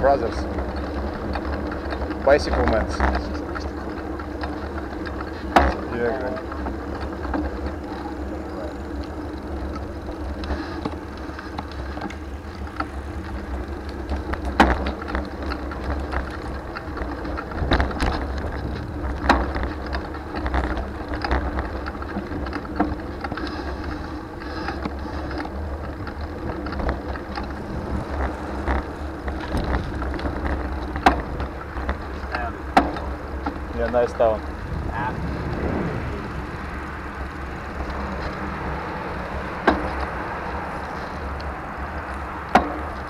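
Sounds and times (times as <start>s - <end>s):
bicycle rattling over bumps: 0.0s - 43.0s
bicycle rolling on road: 0.0s - 43.0s.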